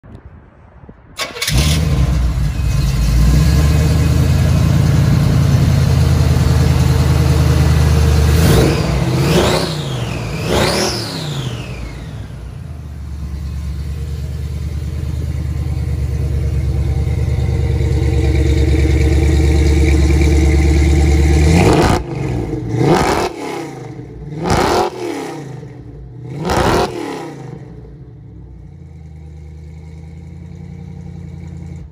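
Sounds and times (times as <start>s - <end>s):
car engine revving and idling: 1.4s - 31.9s.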